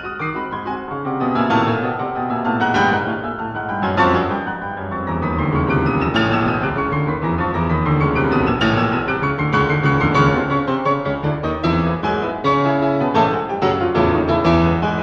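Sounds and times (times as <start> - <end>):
classical piano music: 0.0 - 15.0.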